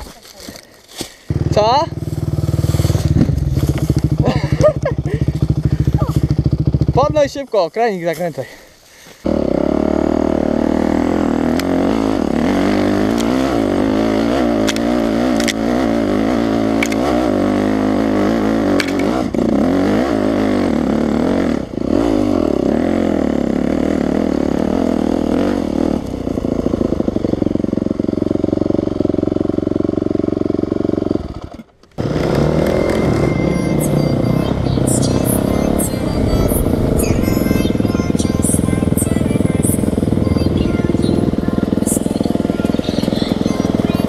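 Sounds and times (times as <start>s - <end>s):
dirt bike engine revving: 1.2s - 7.6s, 9.2s - 44.0s.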